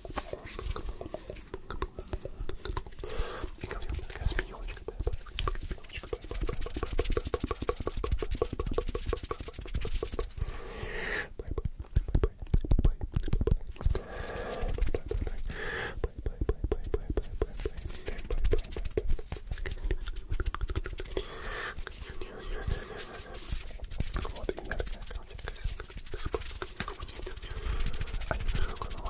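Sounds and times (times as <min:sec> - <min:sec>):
hands clicking and rubbing: 0:00.0 - 0:29.0
person whispering: 0:00.0 - 0:29.0.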